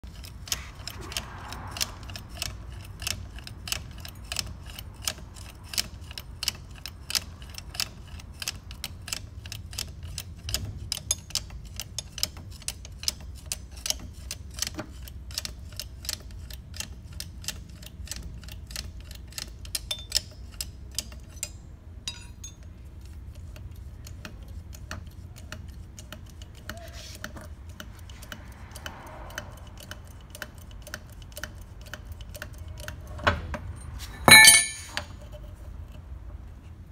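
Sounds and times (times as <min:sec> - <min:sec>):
ratchet clicking: 0:00.1 - 0:33.0.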